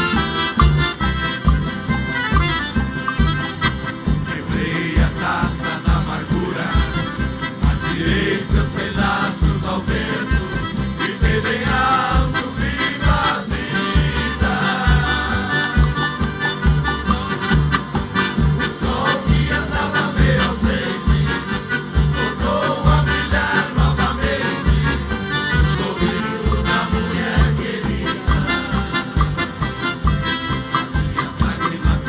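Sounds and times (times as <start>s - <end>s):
country music band playing: 0.0s - 32.0s.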